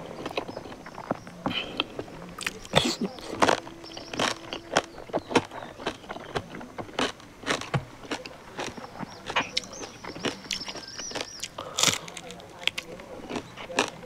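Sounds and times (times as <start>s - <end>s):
mouth clicks and crunches: 0.0s - 14.0s
person chewing food: 0.0s - 14.0s.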